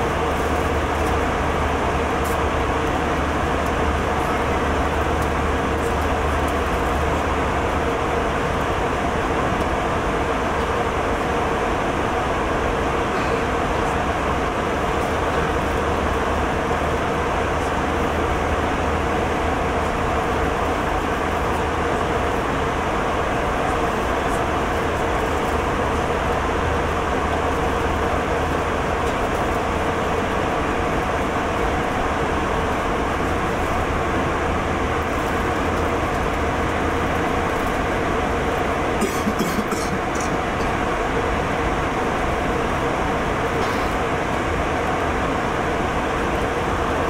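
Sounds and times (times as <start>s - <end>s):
airliner cabin noise: 0.0s - 47.0s.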